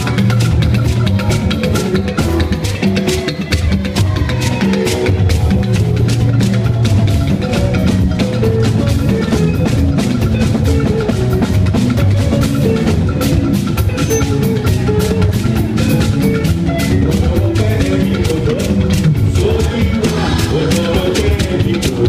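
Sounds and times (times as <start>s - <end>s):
upbeat music with drums: 0.0s - 22.0s.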